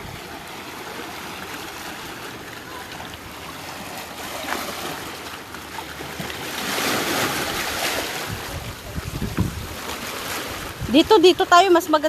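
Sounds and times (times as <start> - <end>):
sea surf washing on shore: 0.0 - 12.0.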